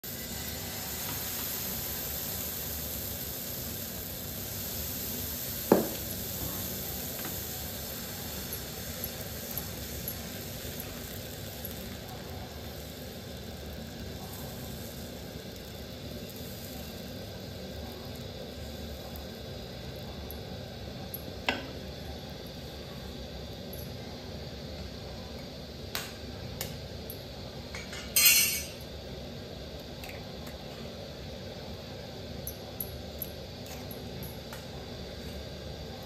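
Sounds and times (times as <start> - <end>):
batter sizzling on hot griddle: 0.0 - 36.0.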